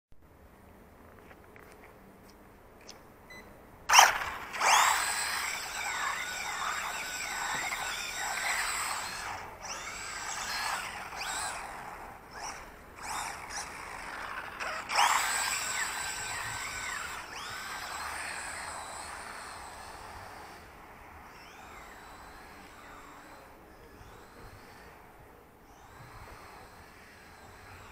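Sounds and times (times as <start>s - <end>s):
rc car electric motor whine: 3.9s - 27.9s.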